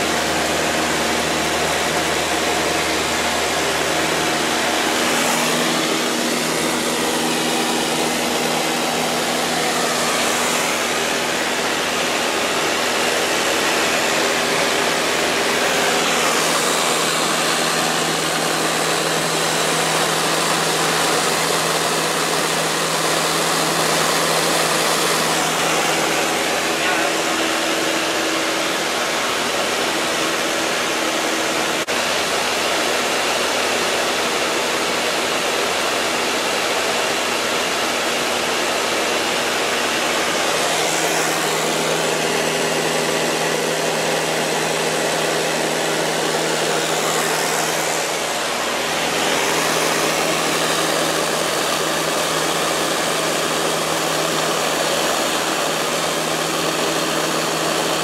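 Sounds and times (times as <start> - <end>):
rushing air: 0.0 - 31.9, 39.7 - 57.6
airplane engine and propeller drone: 0.0 - 58.0.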